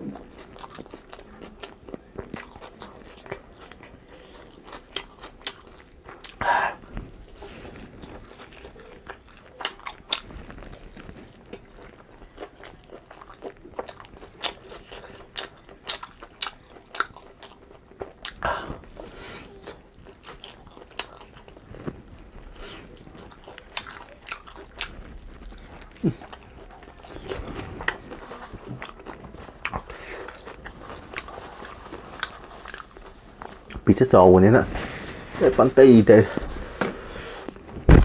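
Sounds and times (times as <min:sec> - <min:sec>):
person crunching and chewing food: 0:00.0 - 0:38.0.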